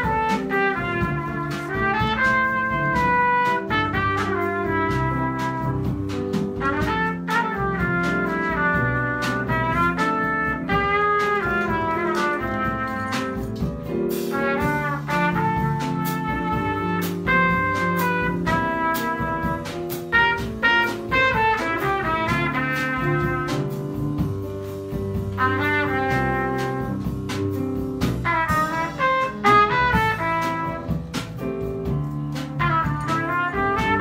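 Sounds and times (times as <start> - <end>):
double bass: 0.0 - 34.0
drum kit with cymbal hits: 0.0 - 34.0
trumpet playing melody: 0.0 - 34.0.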